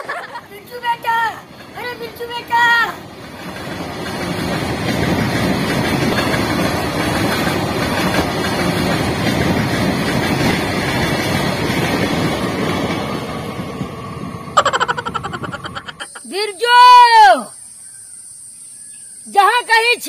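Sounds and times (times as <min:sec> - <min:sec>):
freight train passing: 0:00.0 - 0:17.2.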